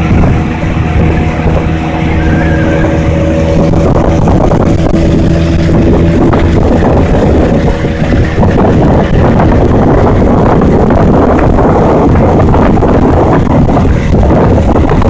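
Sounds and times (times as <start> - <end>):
boat motor running: 0.0 - 15.0
hull rushing through water: 0.0 - 15.0
wind buffeting microphone: 0.0 - 15.0.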